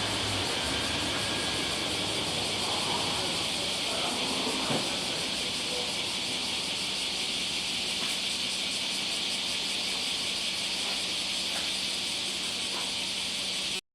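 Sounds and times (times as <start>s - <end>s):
high-pitched hissing drone: 0.0s - 13.8s.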